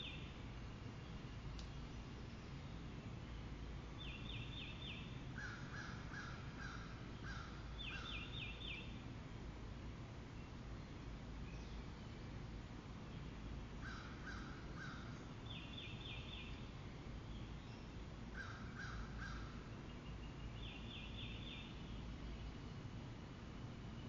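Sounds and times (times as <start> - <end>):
distant birds calling: 0.0 - 9.2, 10.2 - 24.0.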